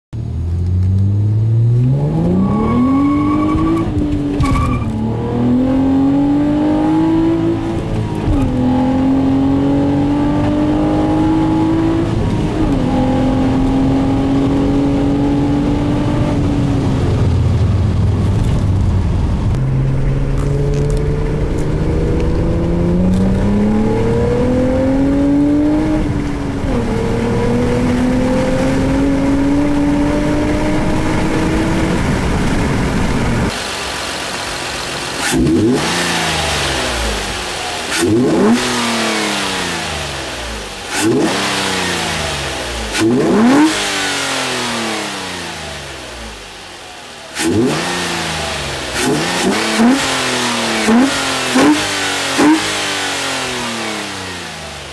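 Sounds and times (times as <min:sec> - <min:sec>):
car engine accelerating through gears: 0:00.2 - 0:33.6, 0:35.1 - 0:54.9.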